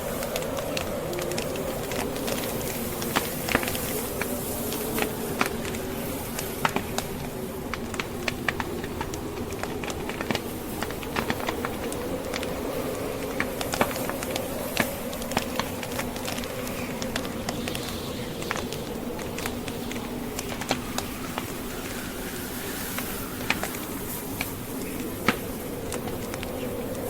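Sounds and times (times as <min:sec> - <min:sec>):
blizzard wind howling: 0:00.0 - 0:27.0
wood fire crackling: 0:00.0 - 0:27.0.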